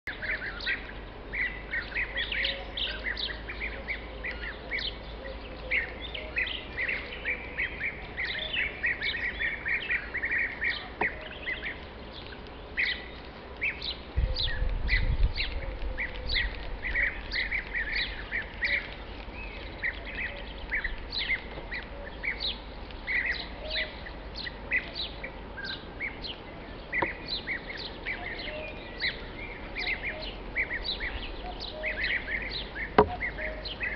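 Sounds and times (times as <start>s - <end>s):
flock of birds calling: 0.1s - 33.9s.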